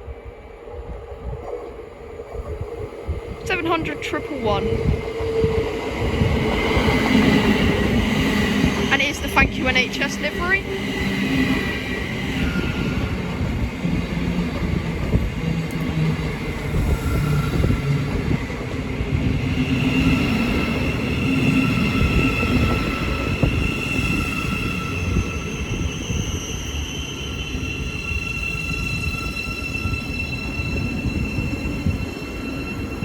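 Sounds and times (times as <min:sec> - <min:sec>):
electric train rumbling: 0:00.0 - 0:33.0.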